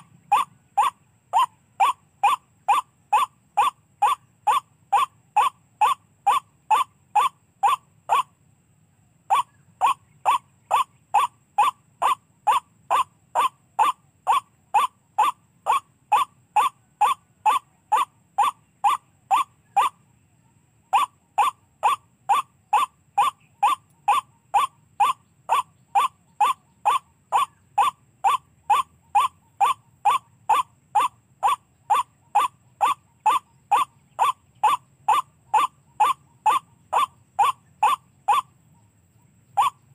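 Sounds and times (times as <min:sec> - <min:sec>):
recorded bird calls through speaker: 0:00.0 - 0:08.4, 0:09.2 - 0:39.9.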